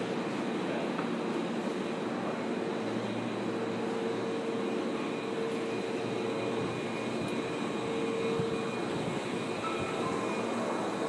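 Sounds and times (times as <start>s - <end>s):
train car rumble: 0.0s - 11.0s.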